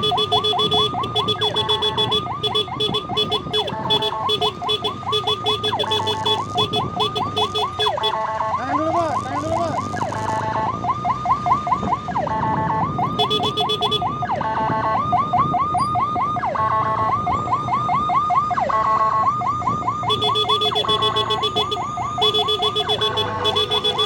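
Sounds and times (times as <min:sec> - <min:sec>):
rapid pulsing siren tone: 0:00.0 - 0:24.0
siren yelp: 0:00.0 - 0:24.0
traffic and engine noise: 0:00.0 - 0:24.0.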